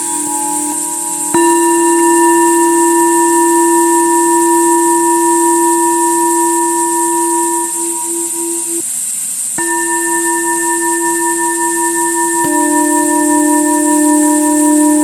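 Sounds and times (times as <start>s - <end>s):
singing bowl ringing: 0.0s - 15.0s.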